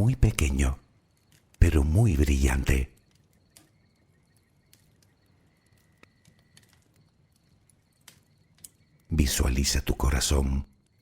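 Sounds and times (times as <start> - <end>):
bonfire crackling and popping: 0.0 - 11.0.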